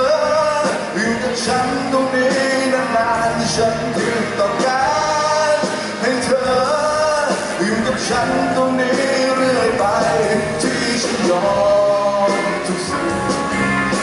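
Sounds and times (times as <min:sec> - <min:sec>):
man singing into a microphone: 0:00.0 - 0:13.4
drums: 0:00.0 - 0:14.0
electric guitar: 0:00.0 - 0:14.0.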